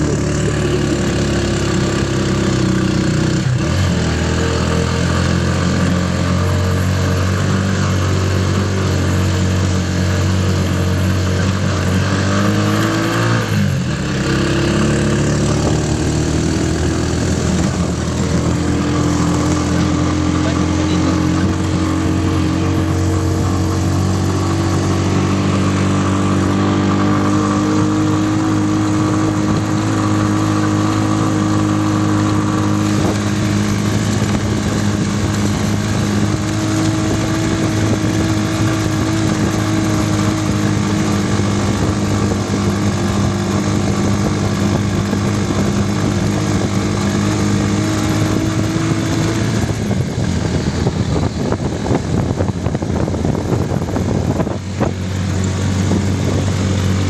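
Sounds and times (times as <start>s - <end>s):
rough rushing noise: 0.0s - 57.0s
vehicle engine humming: 0.0s - 57.0s.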